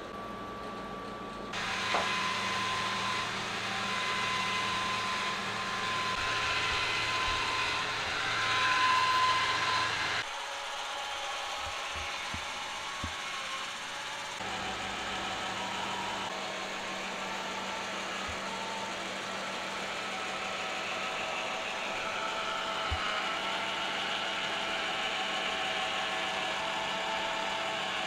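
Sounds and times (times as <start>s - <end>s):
electric motor whir: 1.5s - 28.0s.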